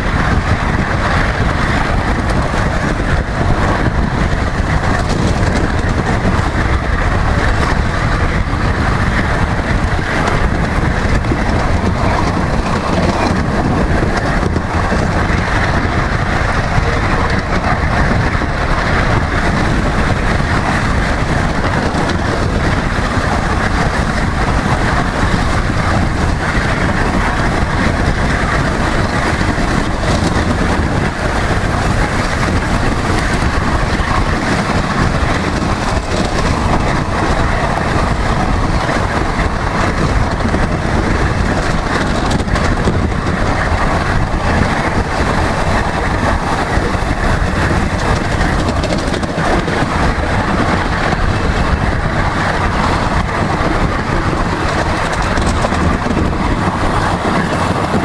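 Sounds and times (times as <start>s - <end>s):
miniature train rumbling: 0.0s - 58.0s.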